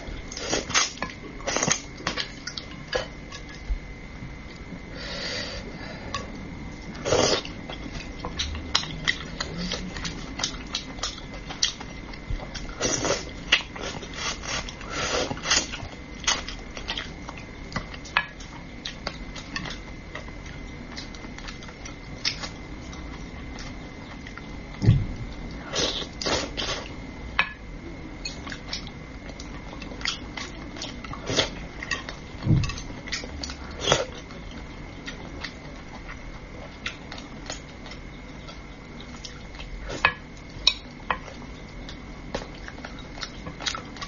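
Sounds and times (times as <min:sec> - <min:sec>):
person chewing and lip smacking: 0:06.1 - 0:26.9, 0:28.3 - 0:39.8, 0:40.4 - 0:44.0.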